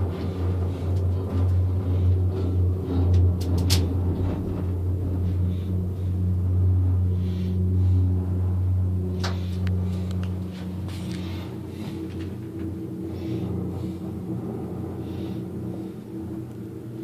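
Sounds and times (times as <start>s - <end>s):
gondola cabin rumble and hum: 0.0s - 17.0s.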